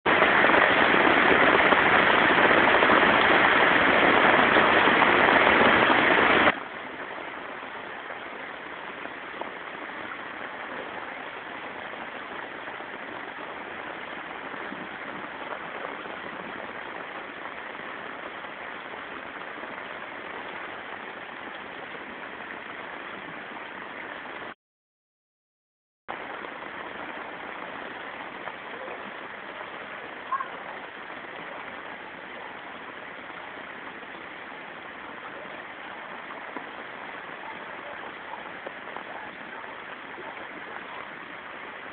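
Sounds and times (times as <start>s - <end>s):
heavy rain pouring: 0.1s - 24.6s, 26.1s - 41.9s.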